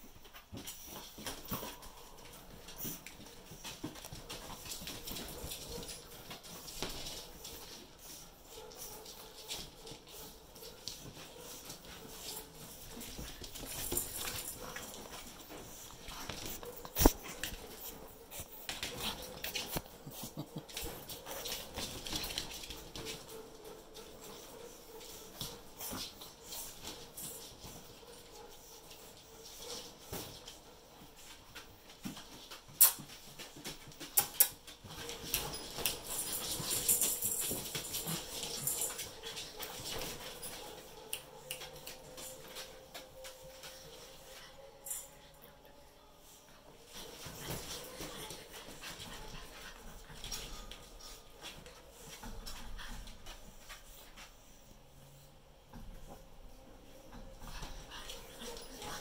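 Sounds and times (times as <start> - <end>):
puppies scuffling in wire crate: 0.0 - 45.6, 46.2 - 59.0.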